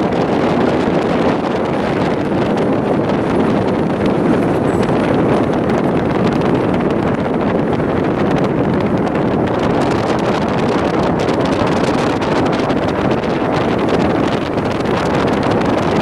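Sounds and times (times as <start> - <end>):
moving vehicle rumble: 0.0 - 16.0
wind buffeting microphone: 0.0 - 16.0.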